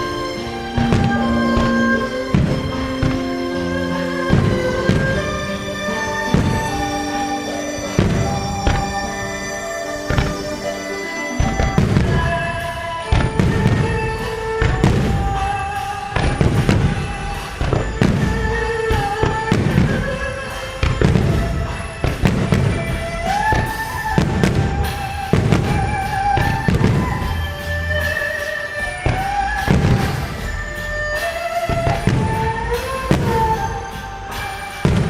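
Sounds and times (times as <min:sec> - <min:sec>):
fireworks shells booming: 0:00.0 - 0:35.0
music with long held notes: 0:00.0 - 0:35.0.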